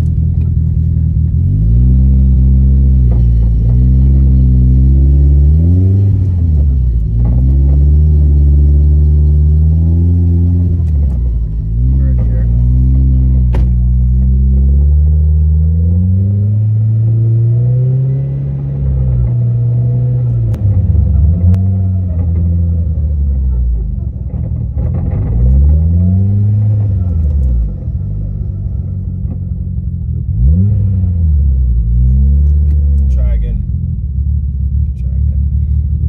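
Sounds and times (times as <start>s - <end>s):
car engine revving in gear: 0.0s - 33.5s.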